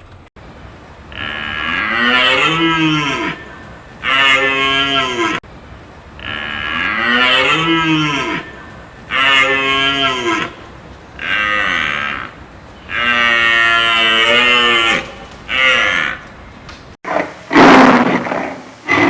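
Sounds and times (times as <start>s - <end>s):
cow mooing: 0.8s - 5.4s, 6.0s - 17.0s.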